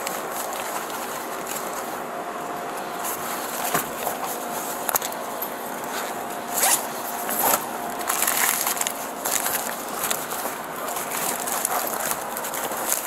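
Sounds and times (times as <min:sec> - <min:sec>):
rustling of bag fabric: 0:00.0 - 0:13.0.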